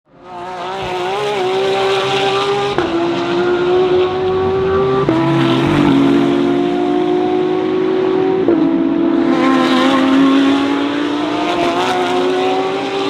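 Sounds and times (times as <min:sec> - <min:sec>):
race car engine accelerating: 0:00.3 - 0:13.0.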